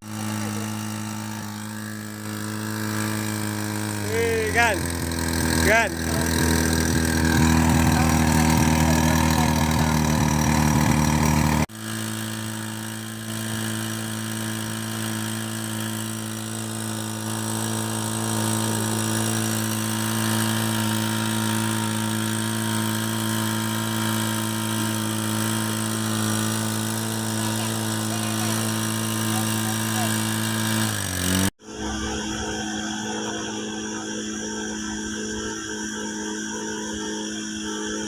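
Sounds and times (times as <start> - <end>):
pump engine running: 0.0 - 38.0
steady hum: 0.0 - 38.0.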